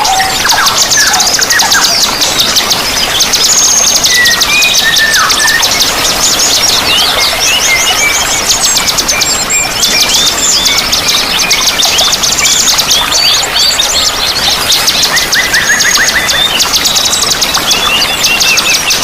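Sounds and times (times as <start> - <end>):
songbirds chorus: 0.0 - 19.0
water flowing: 0.0 - 19.0.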